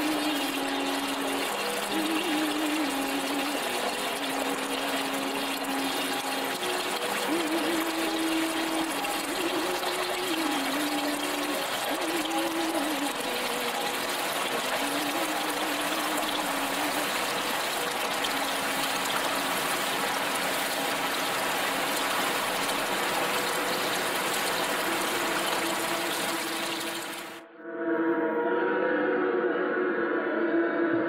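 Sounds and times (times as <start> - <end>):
waterfall pouring into a pool: 0.0 - 27.4.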